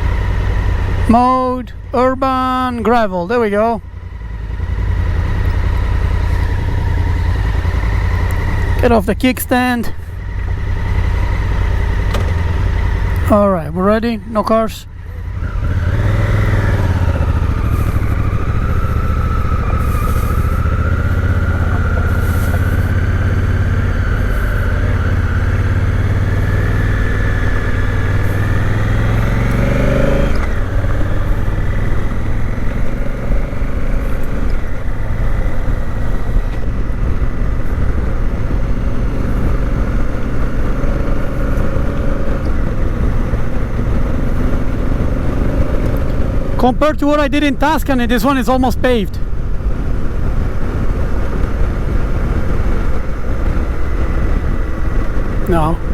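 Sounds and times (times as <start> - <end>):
motorcycle engine accelerating: 0.0 - 2.9, 3.5 - 55.9.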